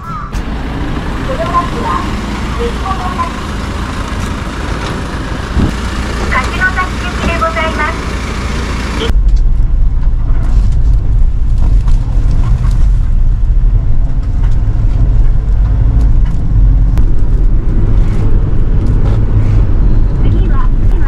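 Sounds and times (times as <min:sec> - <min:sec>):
engine rumble: 0:00.0 - 0:21.0
road noise: 0:00.0 - 0:21.0.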